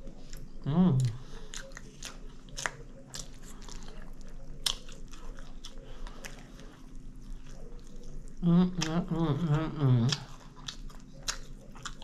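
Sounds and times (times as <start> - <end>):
person chewing and biting food: 0.0 - 12.0.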